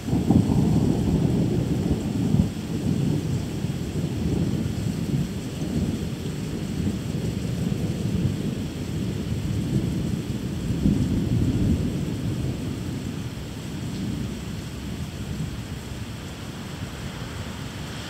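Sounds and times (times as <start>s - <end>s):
rain hissing: 0.0s - 18.0s
thunder rumbling: 0.0s - 18.0s.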